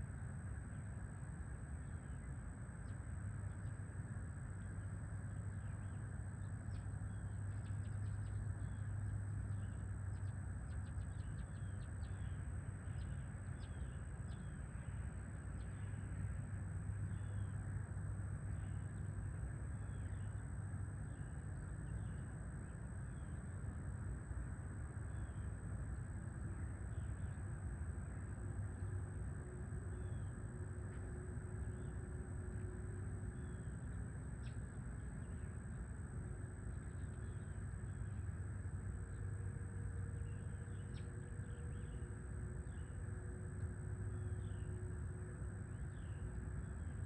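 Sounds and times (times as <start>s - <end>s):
low outdoor hum: 0.0s - 47.0s.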